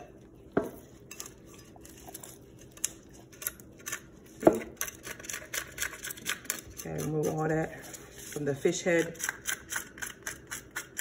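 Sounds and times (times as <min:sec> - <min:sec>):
knife scraping fish scales: 0:00.8 - 0:11.0.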